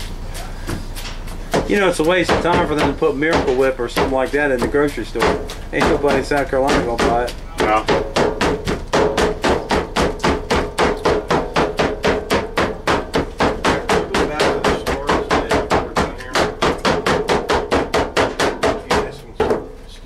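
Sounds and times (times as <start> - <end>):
meat chopping: 1.4 - 19.8.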